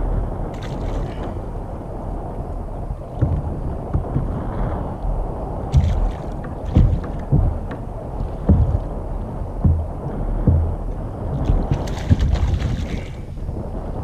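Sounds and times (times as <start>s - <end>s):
dull low thumps: 0.0s - 13.8s
water lapping against kayak: 0.0s - 14.0s
wind buffeting microphone: 0.0s - 14.0s.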